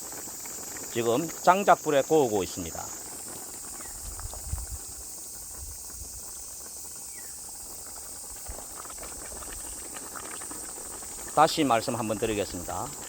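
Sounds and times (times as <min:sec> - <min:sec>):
high insect drone: 0:00.0 - 0:13.0
wood fire crackling: 0:00.0 - 0:13.0.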